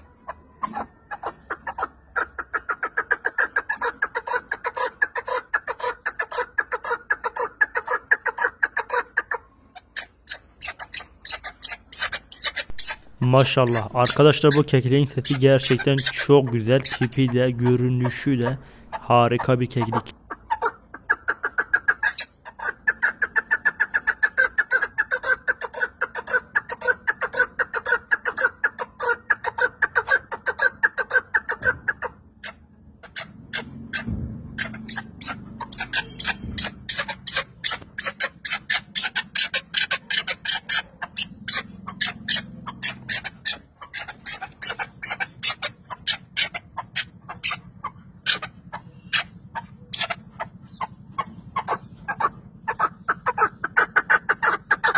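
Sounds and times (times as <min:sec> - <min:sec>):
partridge calling: 0:00.0 - 0:54.9.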